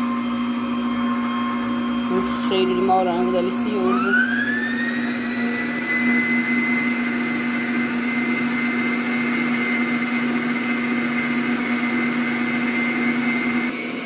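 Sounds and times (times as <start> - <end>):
stand mixer motor whining: 0.0 - 14.0.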